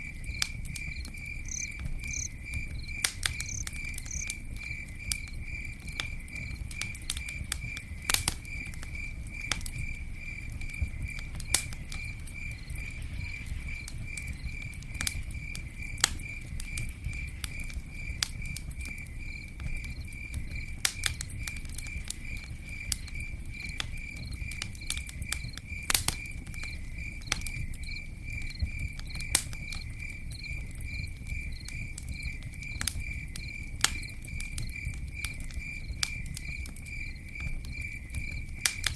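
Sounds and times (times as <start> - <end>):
campfire crackling and popping: 0.0 - 38.9
cricket chirping: 0.0 - 38.9.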